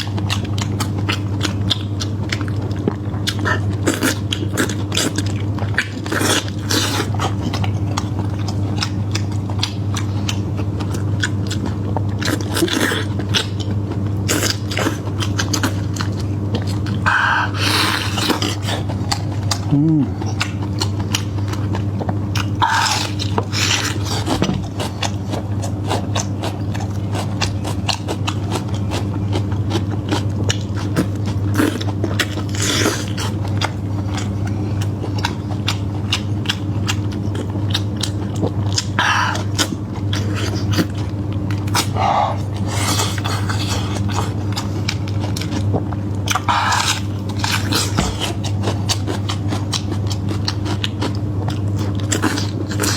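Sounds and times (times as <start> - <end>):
biting and chewing meat: 0.0 - 52.9
steady low hum: 0.0 - 52.9.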